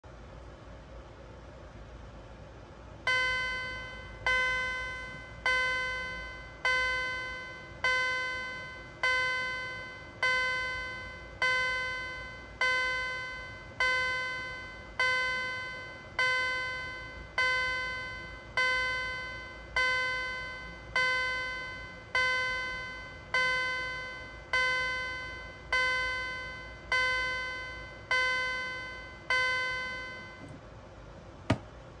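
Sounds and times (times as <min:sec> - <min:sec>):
fire alarm chime ringing: 0:03.1 - 0:30.6.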